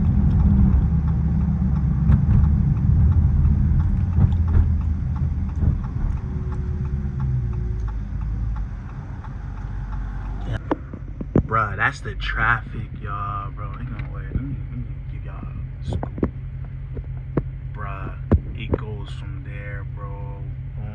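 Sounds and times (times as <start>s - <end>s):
car exhaust rumbling: 0.0s - 20.9s.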